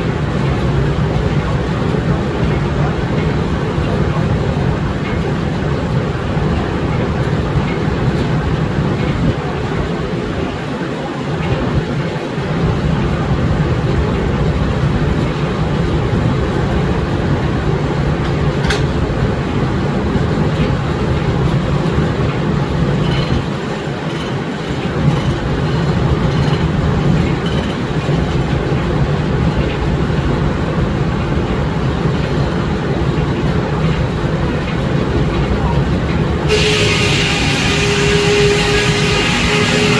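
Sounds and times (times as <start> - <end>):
sawmill mechanical rumble: 0.0 - 39.9.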